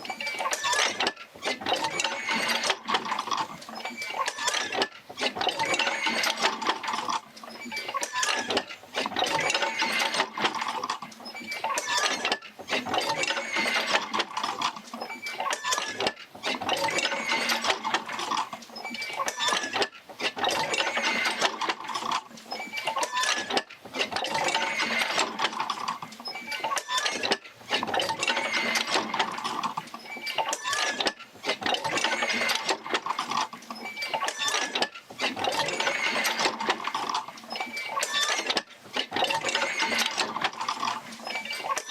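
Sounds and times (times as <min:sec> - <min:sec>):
linkages creaking and clattering: 0:00.0 - 0:41.9.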